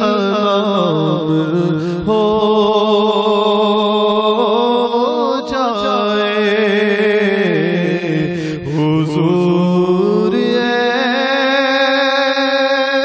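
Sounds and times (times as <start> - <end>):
person singing melismatic vocal: 0.0 - 13.0.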